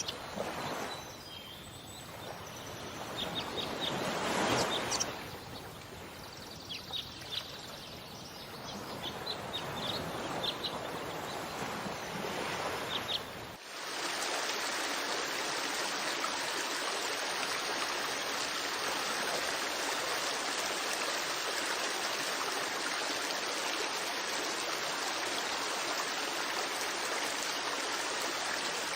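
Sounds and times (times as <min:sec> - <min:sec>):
rush of running water: 0:00.0 - 0:28.9.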